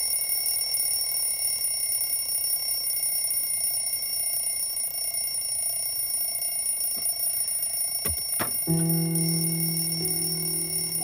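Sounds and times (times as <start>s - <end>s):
alarm clock ringing: 0.0s - 11.0s.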